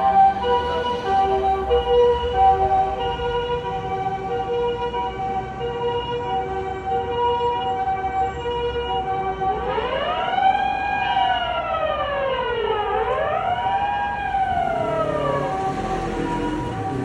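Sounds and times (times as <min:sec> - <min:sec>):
rising and falling siren wail: 0:00.0 - 0:17.0
two-tone ambulance siren: 0:00.0 - 0:17.0.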